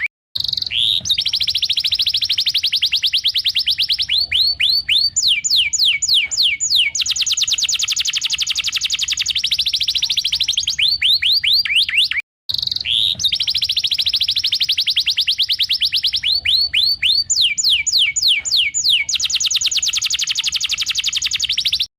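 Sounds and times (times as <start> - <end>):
canary singing: 0.0 - 21.9.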